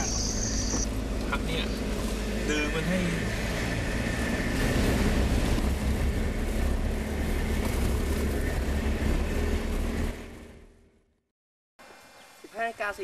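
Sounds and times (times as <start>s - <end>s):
vehicle rumbling on dirt road: 0.0s - 12.8s.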